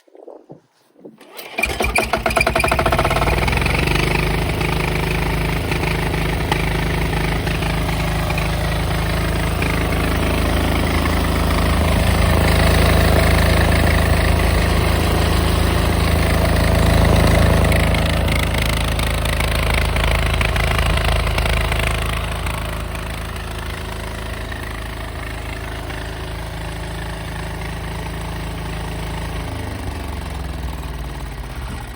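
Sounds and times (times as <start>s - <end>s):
diesel generator engine running: 1.2s - 31.9s.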